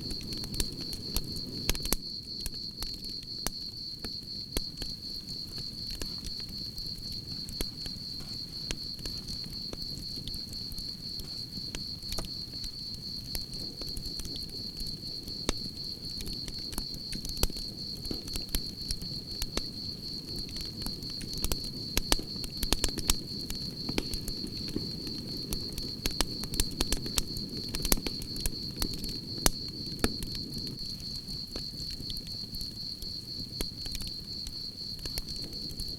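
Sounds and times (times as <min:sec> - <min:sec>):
campfire crackling and popping: 0:00.0 - 0:35.9
crickets chirping: 0:00.0 - 0:35.9.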